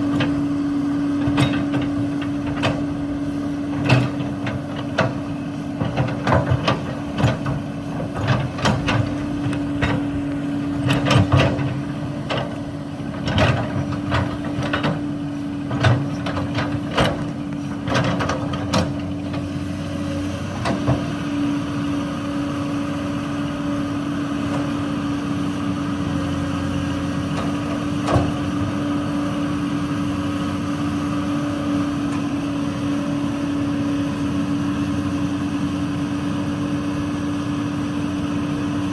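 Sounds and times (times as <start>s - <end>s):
excavator engine humming: 0.0s - 38.9s.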